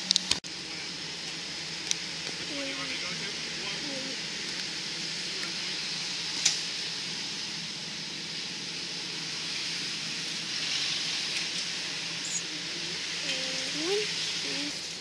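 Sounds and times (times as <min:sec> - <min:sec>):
steady hiss: 0:00.0 - 0:15.0
vehicle engine idling: 0:00.0 - 0:15.0.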